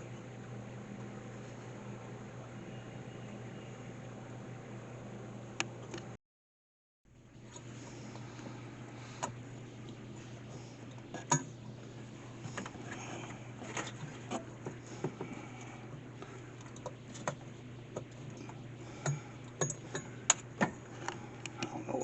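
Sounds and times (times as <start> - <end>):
steady low hum: 0.0 - 6.2, 7.1 - 22.0.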